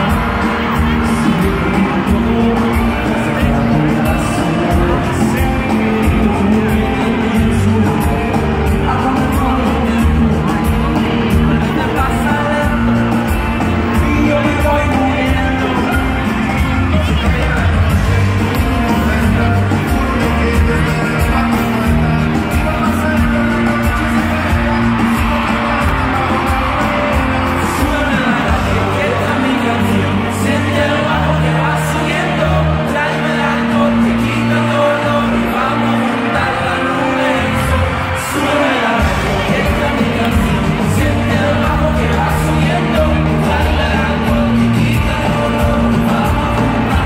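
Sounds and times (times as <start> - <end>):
live band playing reggaeton: 0.0 - 47.0
man singing: 0.0 - 47.0.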